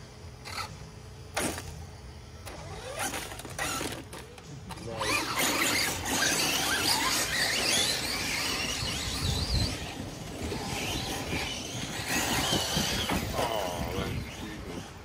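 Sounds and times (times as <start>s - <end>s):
toy car motors whining: 0.0s - 1.8s, 2.4s - 15.0s.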